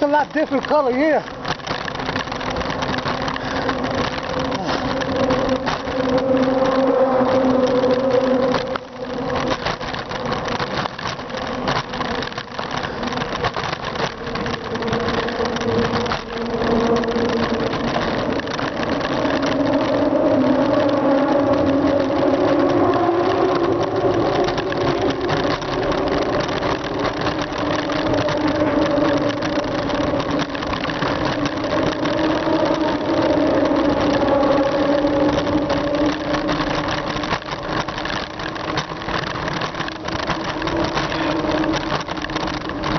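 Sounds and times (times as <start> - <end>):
bicycle riding hum: 0.0 - 42.9
tyre noise on road: 0.0 - 42.9
wind noise: 0.0 - 42.9.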